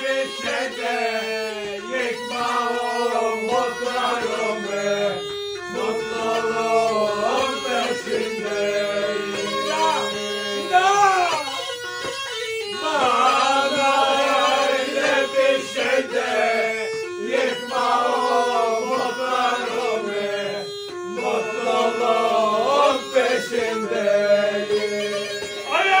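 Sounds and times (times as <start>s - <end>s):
held drone note: 0.0s - 26.0s.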